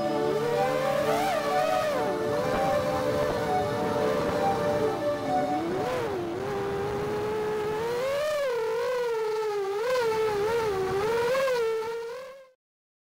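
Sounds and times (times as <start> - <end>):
drone motors whining: 0.0 - 12.5.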